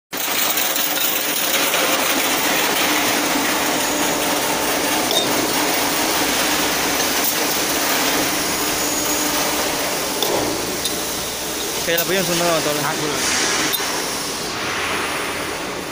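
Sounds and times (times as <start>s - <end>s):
hydraulic power unit humming: 0.3s - 15.9s.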